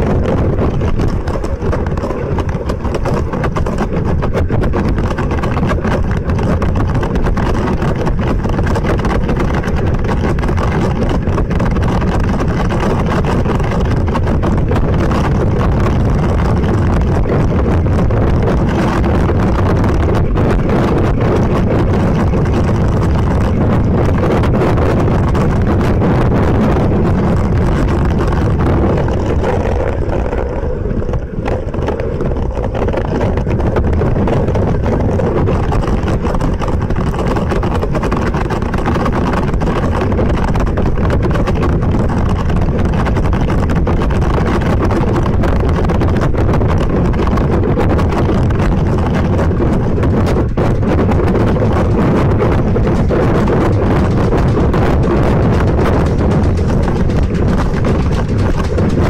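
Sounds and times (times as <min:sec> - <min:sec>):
board skimming over choppy water: 0:00.0 - 0:59.0
wind buffeting microphone: 0:00.0 - 0:59.0.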